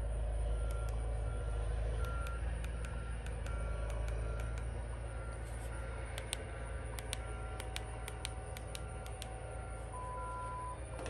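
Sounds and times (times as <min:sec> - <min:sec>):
low engine rumble: 0:00.0 - 0:11.0
reversing beeper: 0:00.4 - 0:11.0.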